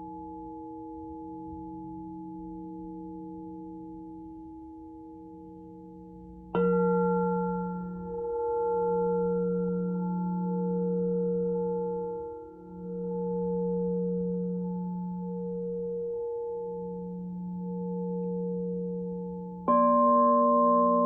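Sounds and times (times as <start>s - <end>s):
crystal singing bowls ringing: 0.0s - 21.0s.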